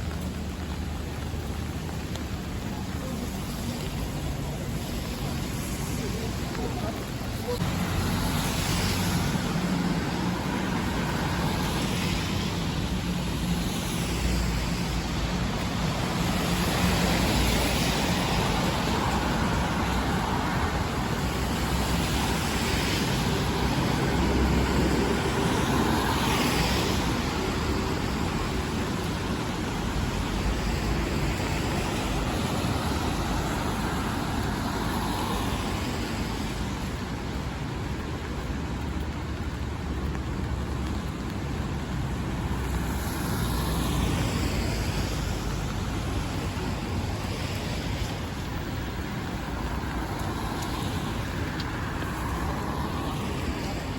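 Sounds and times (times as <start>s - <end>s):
rain on a street: 0.0s - 53.9s
tyres hissing on wet road: 0.0s - 53.9s.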